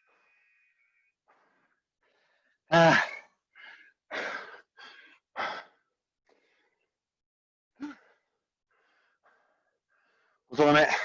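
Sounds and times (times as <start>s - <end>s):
person breathing hard: 0.0s - 2.7s, 3.3s - 6.9s, 7.8s - 10.5s.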